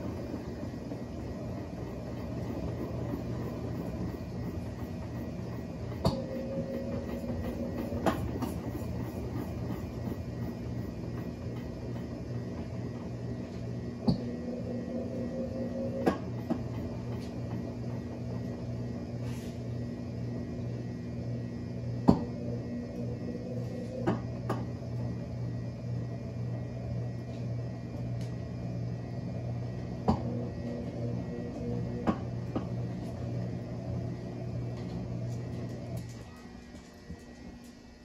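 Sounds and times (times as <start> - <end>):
washing machine draining hum: 0.0 - 38.0.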